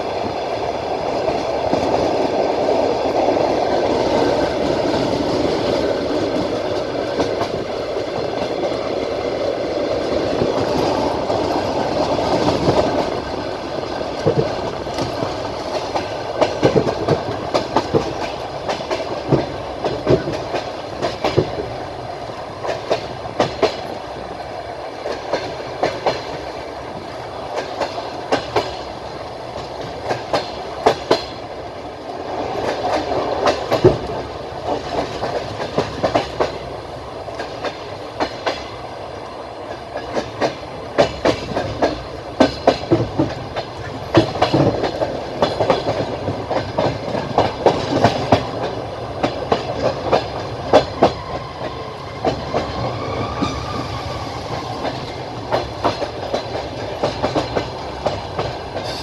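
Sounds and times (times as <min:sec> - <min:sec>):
train wheels rumbling on rails: 0:00.0 - 0:59.0
wheels clacking over rail joints: 0:00.0 - 0:59.0.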